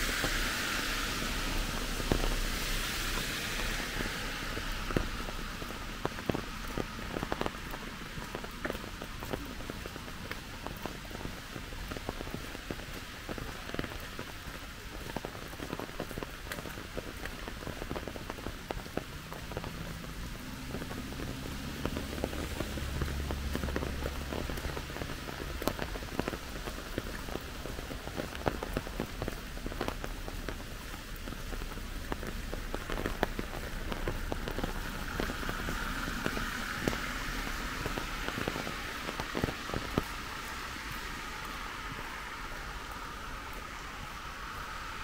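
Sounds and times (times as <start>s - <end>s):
rain hissing: 0.0s - 45.0s
raindrops ticking close by: 0.0s - 45.0s.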